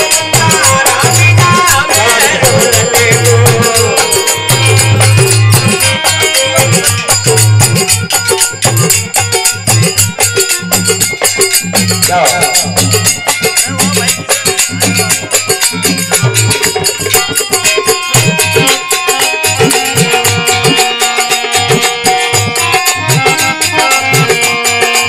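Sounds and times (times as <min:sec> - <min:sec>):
hand drum rhythm: 0:00.0 - 0:25.0
jingling hand percussion: 0:00.0 - 0:25.0.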